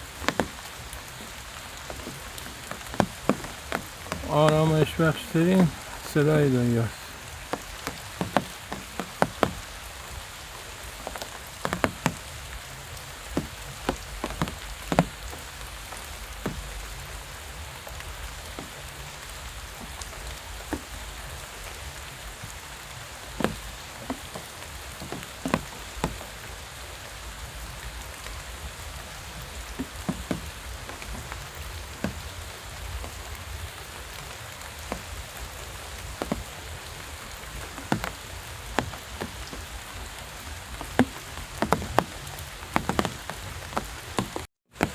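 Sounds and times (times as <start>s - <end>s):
sharp taps of raindrops: 0.0s - 44.9s
steady rain falling: 0.0s - 44.9s.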